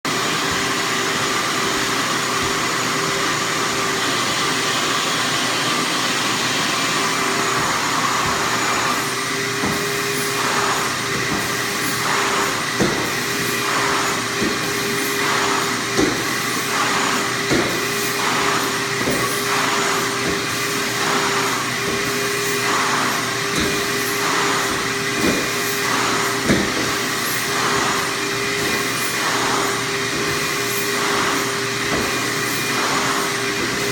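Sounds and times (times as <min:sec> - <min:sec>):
floor vacuum running: 0:00.0 - 0:33.9.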